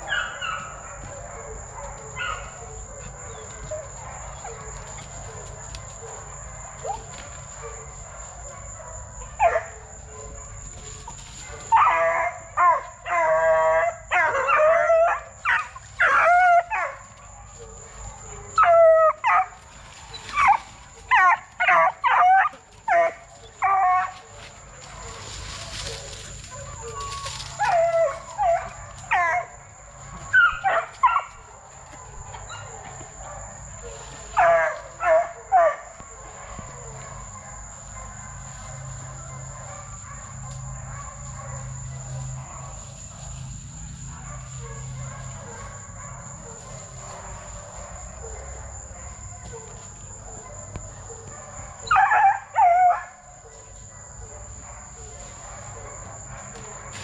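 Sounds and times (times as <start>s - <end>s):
dogs barking: 0.0s - 57.0s
high insect drone: 0.0s - 57.0s.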